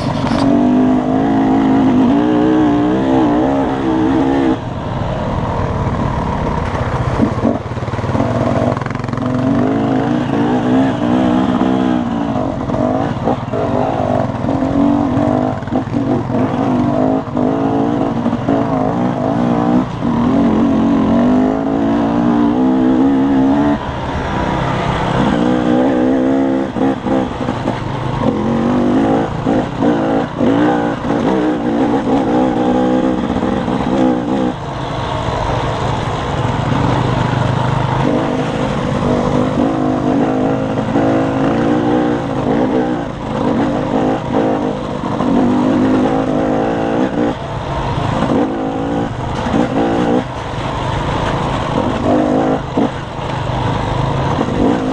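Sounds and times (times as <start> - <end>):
dirt bike engine revving: 0.0 - 4.7, 5.9 - 54.9.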